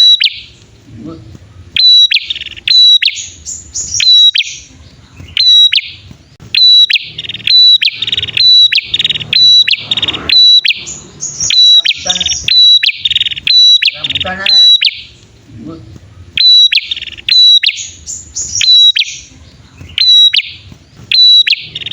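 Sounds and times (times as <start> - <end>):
bird sharp repeated notes: 0.0 - 21.9
buzzy rattling bird trills: 0.0 - 21.9.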